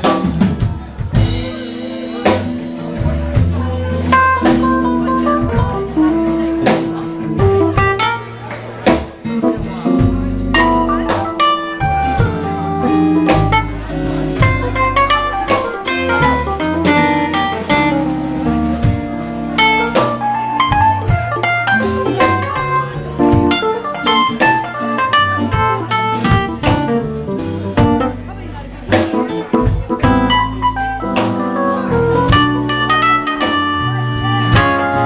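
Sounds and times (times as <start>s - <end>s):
drum kit: 0.0s - 35.0s
live band playing: 0.0s - 35.0s
walking bass line: 0.0s - 35.0s
lead guitar melody: 1.2s - 35.0s.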